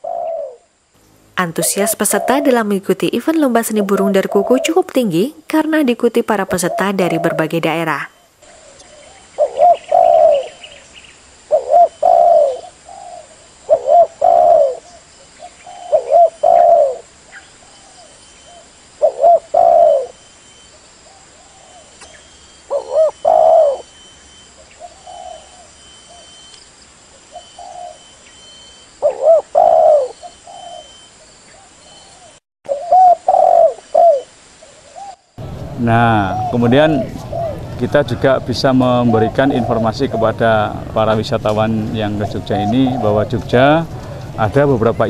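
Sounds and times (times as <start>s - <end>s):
doves cooing: 0.0s - 0.7s, 1.4s - 26.6s, 27.2s - 45.0s.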